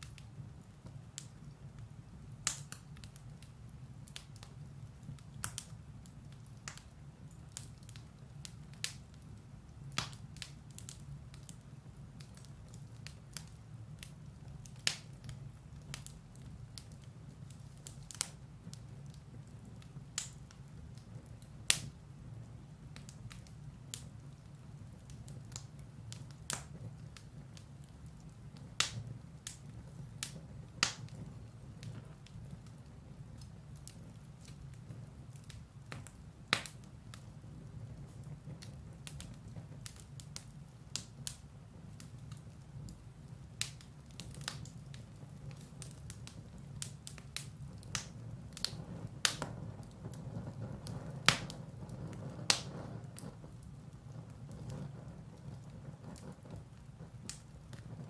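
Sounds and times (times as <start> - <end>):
firewood crackling and popping: 0.0 - 58.0
flames rumbling: 0.0 - 58.0.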